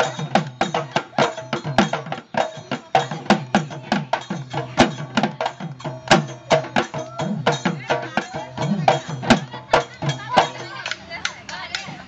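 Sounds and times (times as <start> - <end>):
barrel drum beaten in dance rhythm: 0.0 - 12.0.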